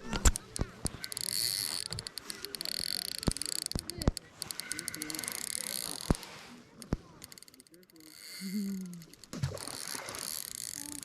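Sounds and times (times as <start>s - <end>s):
sharp clicks: 0.0s - 11.0s.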